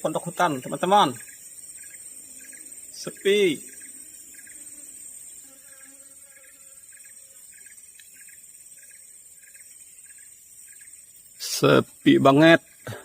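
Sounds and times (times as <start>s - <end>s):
insect chirps: 0.0s - 13.0s
insect high-pitched drone: 0.0s - 13.0s.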